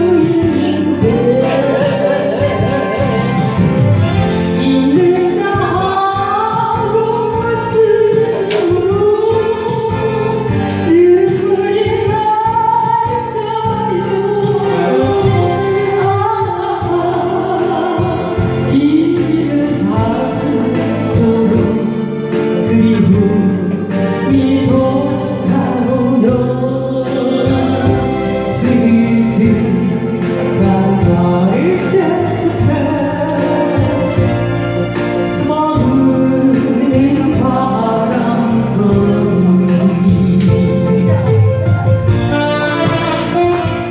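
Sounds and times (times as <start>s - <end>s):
instrumental accompaniment: 0.0s - 43.9s
woman singing a ballad: 0.0s - 43.9s.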